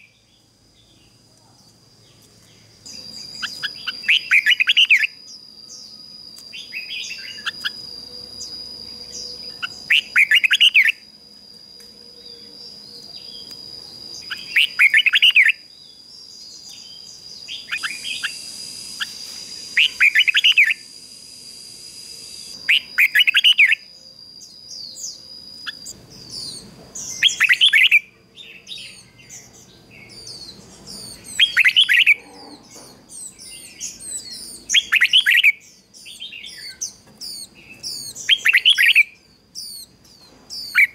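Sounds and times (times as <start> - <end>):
faint high chirps: 0.0 - 40.9
thin steady high tone: 0.0 - 40.9
bird warbling song: 2.1 - 11.1, 12.0 - 20.9, 22.3 - 40.9.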